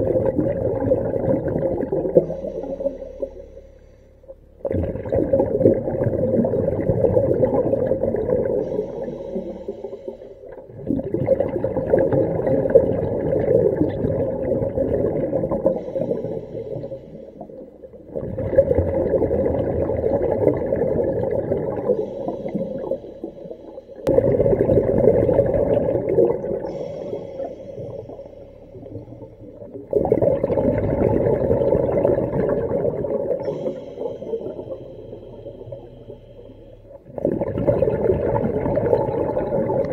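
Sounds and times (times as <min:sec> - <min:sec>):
air bubbles underwater: 0:00.0 - 0:03.6, 0:04.2 - 0:39.9.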